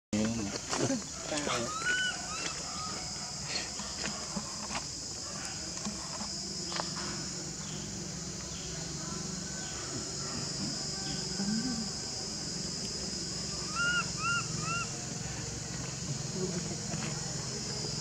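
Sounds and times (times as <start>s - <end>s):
insects shrilling: 0.2s - 18.0s
low steady hum: 1.0s - 18.0s.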